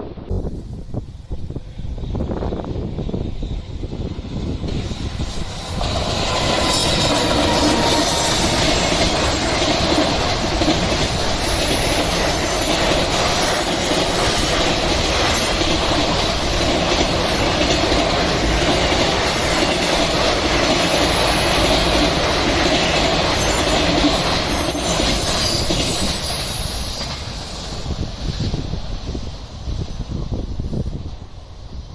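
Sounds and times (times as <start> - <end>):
freight train wheels clattering: 2.0 - 30.0.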